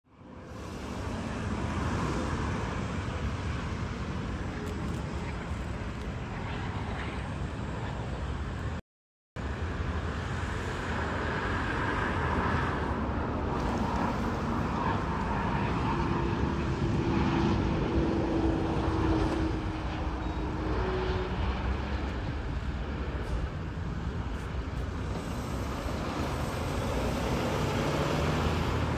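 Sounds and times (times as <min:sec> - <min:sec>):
jet engines whine: 0:00.1 - 0:08.8, 0:09.4 - 0:28.9.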